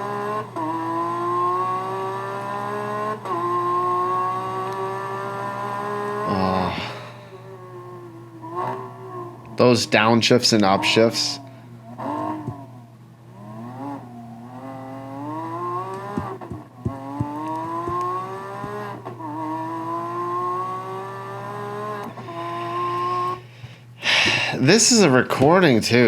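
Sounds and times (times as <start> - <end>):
car engine accelerating hard: 0.0 - 9.6, 10.5 - 23.4.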